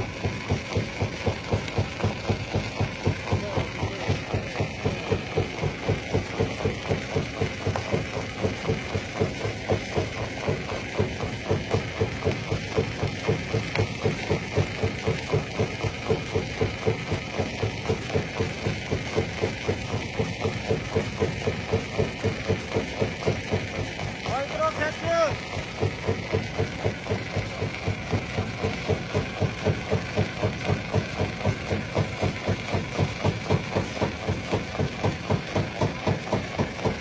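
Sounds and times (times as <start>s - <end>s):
stone crusher pounding: 0.0s - 37.0s.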